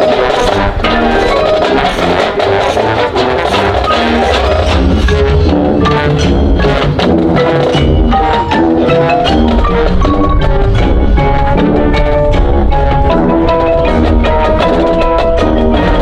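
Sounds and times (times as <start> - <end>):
marching band playing: 0.0 - 16.0
pitched percussion: 0.0 - 16.0.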